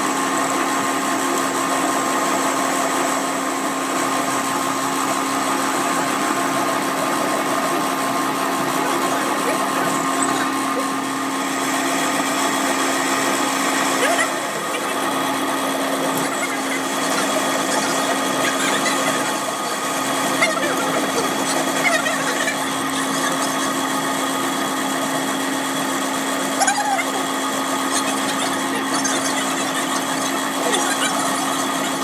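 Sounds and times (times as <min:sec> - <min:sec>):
workshop machine humming: 0:00.0 - 0:32.0.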